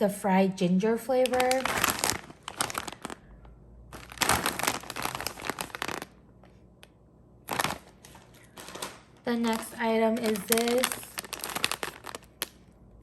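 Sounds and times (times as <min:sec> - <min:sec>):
plastic packaging crinkling: 0:01.1 - 0:06.6, 0:07.4 - 0:12.8.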